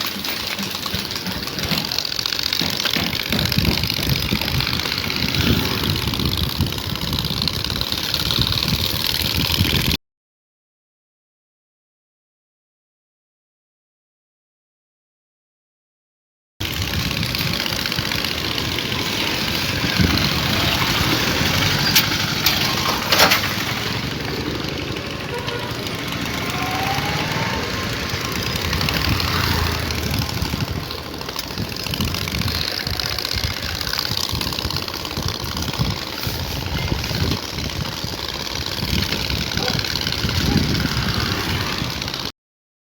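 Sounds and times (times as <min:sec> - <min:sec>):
engine idling: 0:00.0 - 0:09.6, 0:16.6 - 0:42.3.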